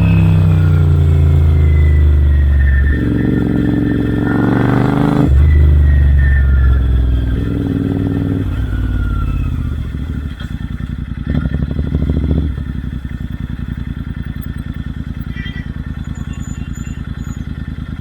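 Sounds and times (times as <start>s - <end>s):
motorcycle engine burbling: 0.0s - 18.0s.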